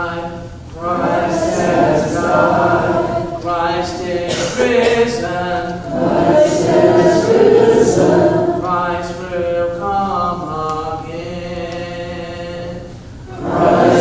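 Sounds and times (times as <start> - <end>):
unaccompanied singing: 0.0 - 14.0.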